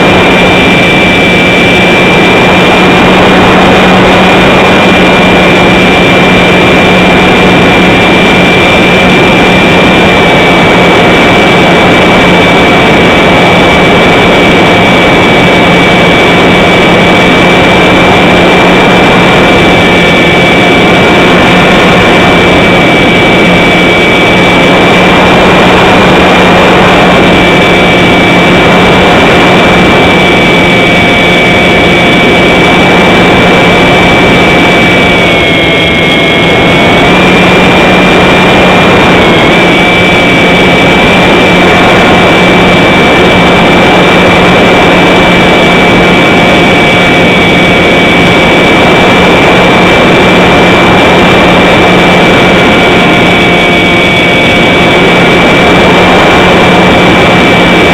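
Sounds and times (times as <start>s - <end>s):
model aircraft motor whine: 0.0s - 57.9s
rushing wind noise: 0.0s - 57.9s.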